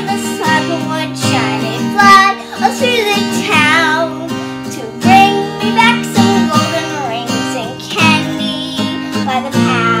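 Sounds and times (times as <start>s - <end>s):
girl singing: 0.0s - 10.0s
strummed acoustic guitar: 0.0s - 10.0s.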